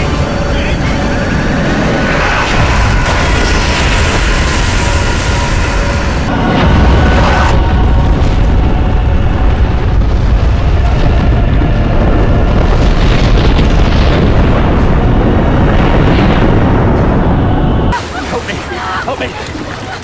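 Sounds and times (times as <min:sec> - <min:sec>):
rumbling explosion boom: 0:00.0 - 0:18.0.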